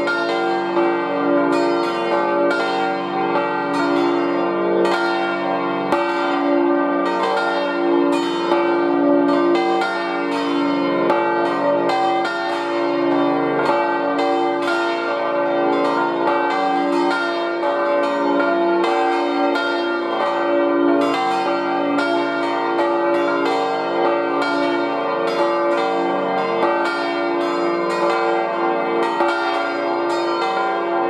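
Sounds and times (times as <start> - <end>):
church bells ringing: 0.0 - 31.0.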